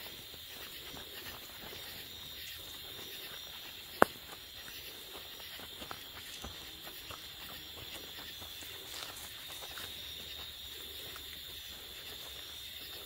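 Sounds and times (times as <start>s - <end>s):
footsteps on dirt trail: 0.0s - 13.0s
night insects chirring: 0.0s - 13.0s.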